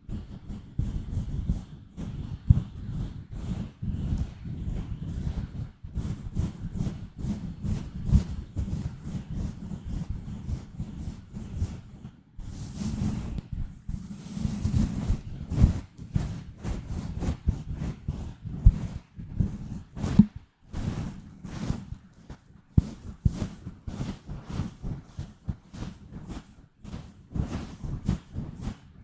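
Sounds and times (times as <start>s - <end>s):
fingertips scratching microphone: 0.3s - 28.9s
soft hissing rub: 5.2s - 28.9s.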